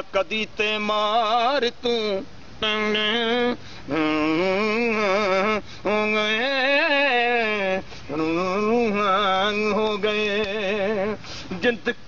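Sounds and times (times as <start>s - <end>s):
man singing folk song: 0.0s - 12.0s.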